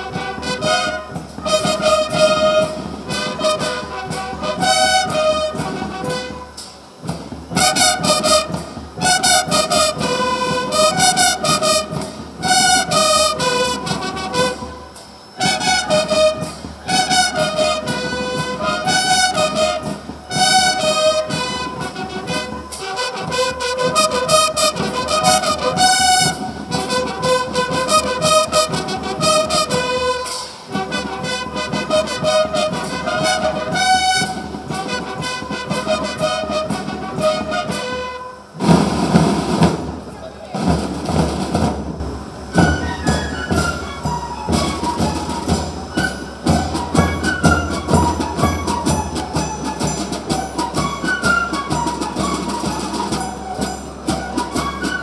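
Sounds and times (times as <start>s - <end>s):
side drums and bass drums: 0.0s - 55.0s
wind instruments playing melody: 0.0s - 55.0s.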